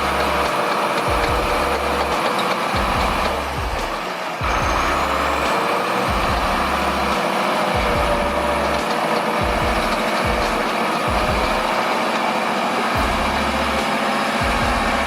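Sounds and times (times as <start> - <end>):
heavy vehicle engine running: 0.0 - 15.0
background music with pulsing bass: 1.1 - 12.0, 13.0 - 15.0.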